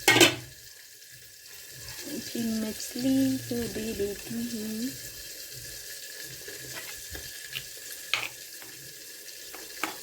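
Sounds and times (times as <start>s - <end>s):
liquid sizzling and bubbling in pot: 0.0s - 10.0s.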